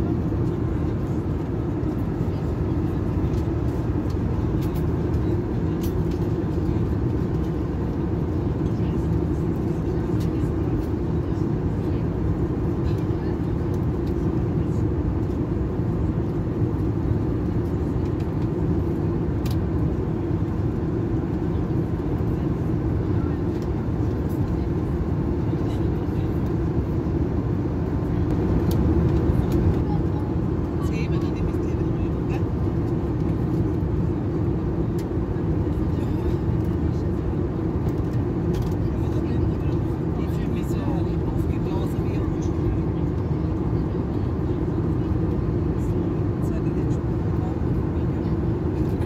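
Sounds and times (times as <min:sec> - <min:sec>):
airplane cabin noise: 0:00.0 - 0:49.0.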